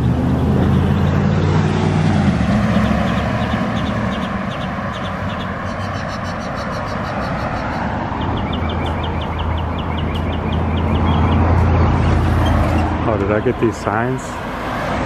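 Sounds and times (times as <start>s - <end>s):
road traffic: 0.0s - 15.0s
vehicle engine passing: 0.0s - 15.0s.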